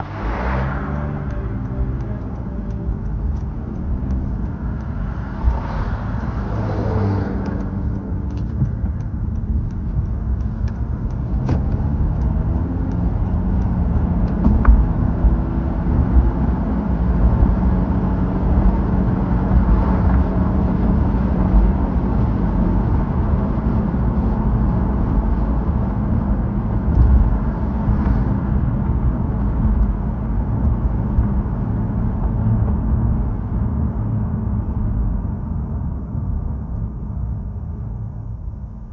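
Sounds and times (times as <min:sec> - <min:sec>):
car engine hum and road rumble: 0:00.0 - 0:38.9.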